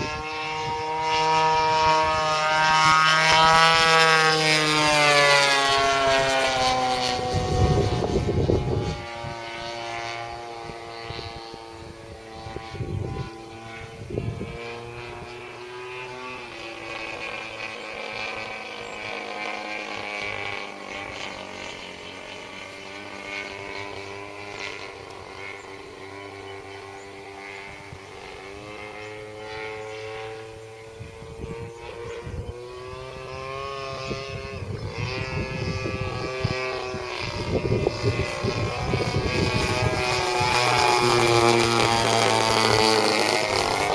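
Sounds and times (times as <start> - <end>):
model airplane motor buzzing: 0.0 - 43.9
wind rumbling on microphone: 0.0 - 43.9.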